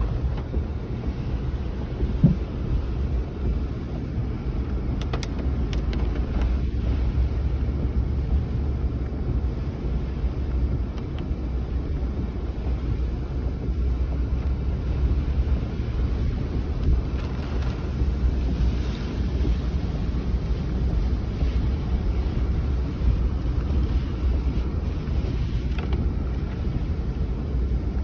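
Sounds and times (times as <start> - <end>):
storm wind and rain on car: 0.0 - 28.0.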